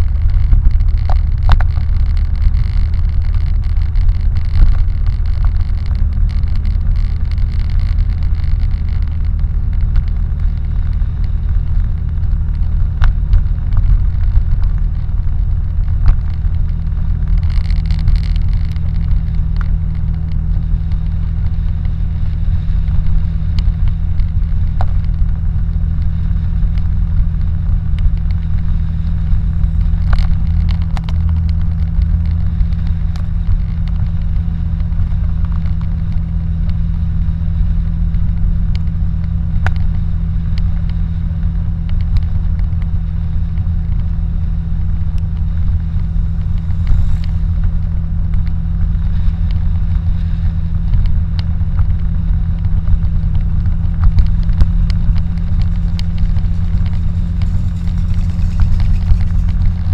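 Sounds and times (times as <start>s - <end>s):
small clicks and rattles: 0.0s - 37.0s, 45.1s - 59.9s
car engine and tyre rumble: 0.0s - 59.9s.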